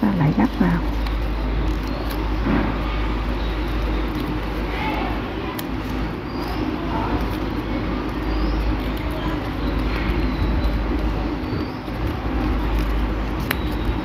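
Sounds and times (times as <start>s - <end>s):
low rumbling background noise: 0.0s - 14.0s
paper crinkling: 0.0s - 14.0s.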